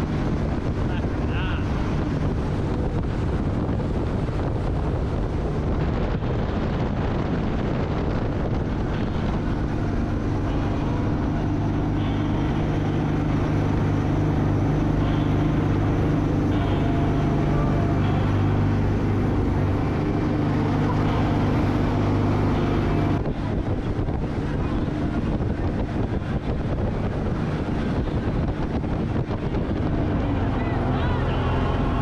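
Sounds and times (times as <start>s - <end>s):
boat engine running: 0.0s - 32.0s
wind noise on microphone: 0.0s - 32.0s.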